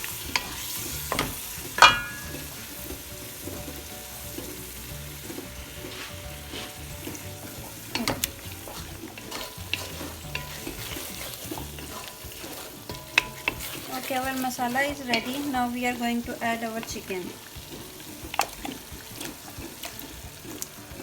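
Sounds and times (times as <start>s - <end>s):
masala sizzling in a pan: 0.0s - 21.0s
spatula clanking against pan: 0.0s - 21.0s
spatula stirring and scraping: 0.0s - 21.0s.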